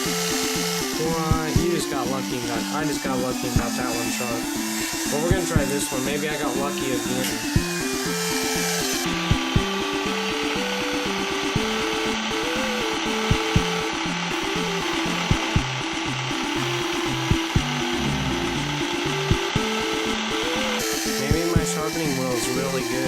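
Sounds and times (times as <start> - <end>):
background music: 0.0 - 23.0
electric hair clipper cutting: 0.0 - 23.0.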